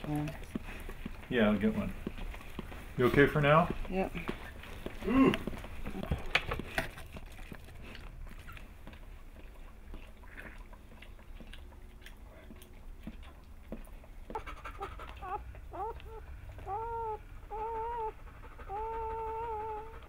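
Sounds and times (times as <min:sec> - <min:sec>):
dog chewing and licking: 0:00.0 - 0:20.0.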